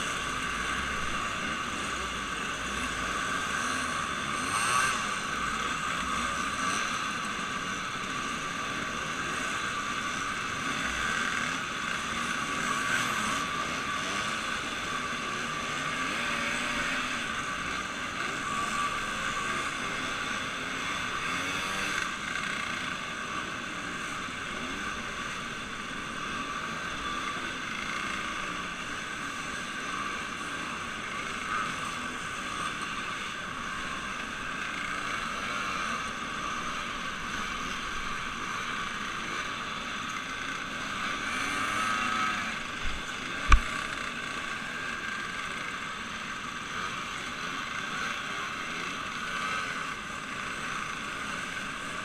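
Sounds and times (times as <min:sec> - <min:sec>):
motorboat engine running steadily: 0:00.0 - 0:52.0.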